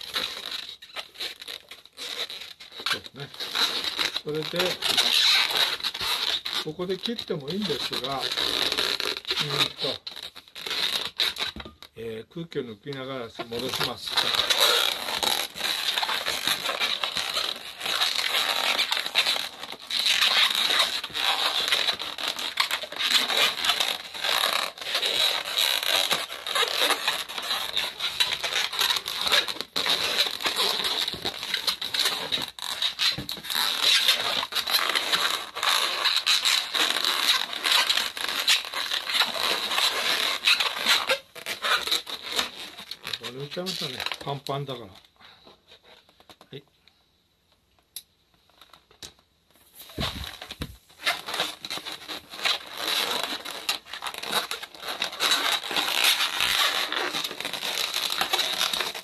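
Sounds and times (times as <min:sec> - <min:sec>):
balloons squeaking and rubbing: 0:00.0 - 0:46.6, 0:49.5 - 0:59.0.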